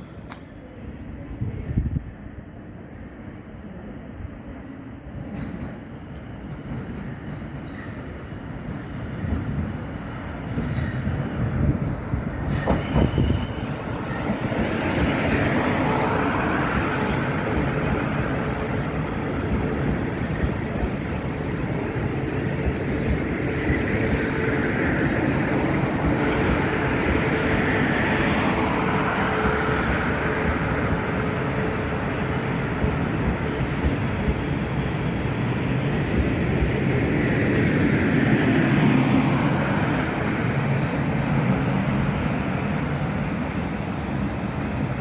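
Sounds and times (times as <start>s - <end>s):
train rumbling past: 0.0s - 45.0s.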